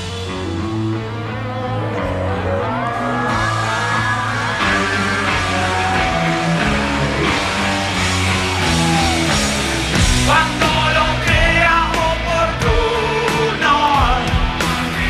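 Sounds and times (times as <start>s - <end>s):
bass notes: 0.0s - 15.0s
electric guitar lines: 0.0s - 15.0s.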